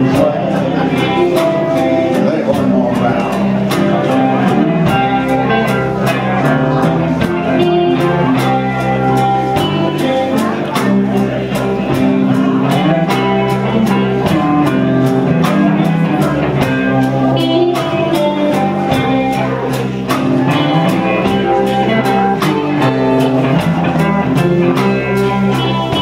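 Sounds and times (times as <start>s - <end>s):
bass: 0.0s - 26.0s
drums with steady beat: 0.0s - 26.0s
guitar: 0.0s - 26.0s.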